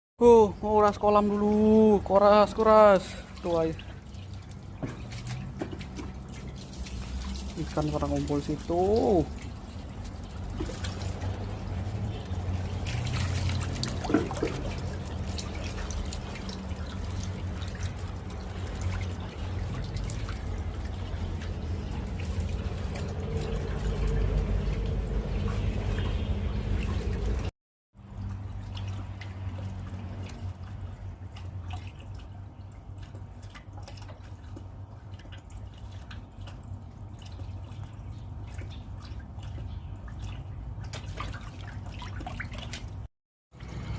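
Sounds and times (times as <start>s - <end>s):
water trickling and dripping: 0.2s - 43.9s.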